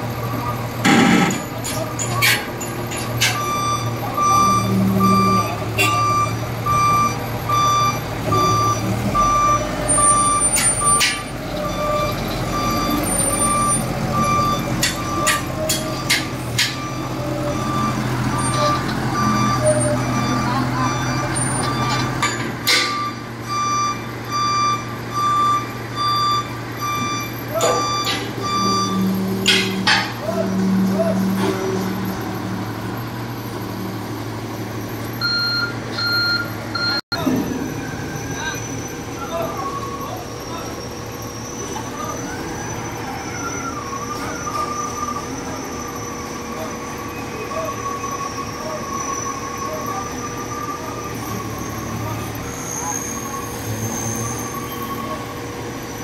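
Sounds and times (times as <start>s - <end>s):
diesel engine running: 0.0s - 56.0s
forklift reversing alarm beeping: 0.1s - 56.0s.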